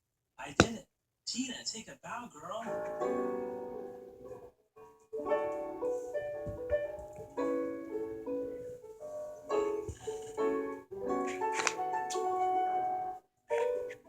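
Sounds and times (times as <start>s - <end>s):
piano music: 2.6s - 14.0s.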